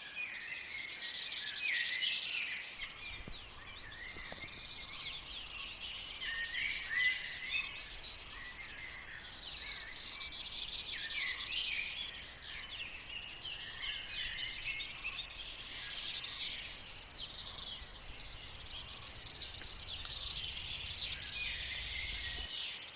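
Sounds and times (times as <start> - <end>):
small birds chirping and trilling: 2.8 - 22.9.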